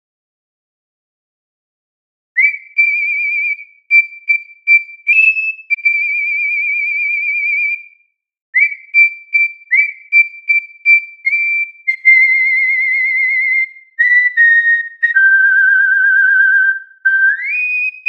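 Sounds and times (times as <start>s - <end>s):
whistled melody: 2.4s - 18.0s.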